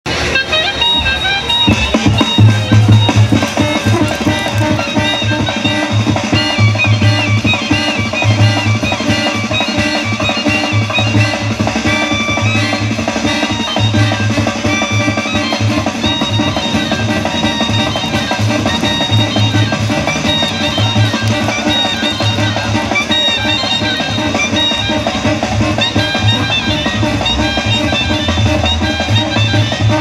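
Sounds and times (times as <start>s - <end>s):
music with drums and bass pulse: 0.9s - 30.0s.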